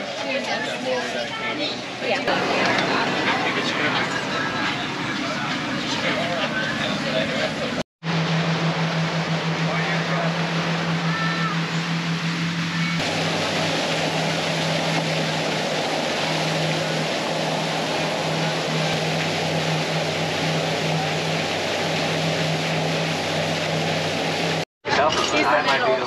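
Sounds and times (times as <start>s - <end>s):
motorboat engine hum: 0.0s - 24.7s
wind and water rushing: 0.0s - 24.7s.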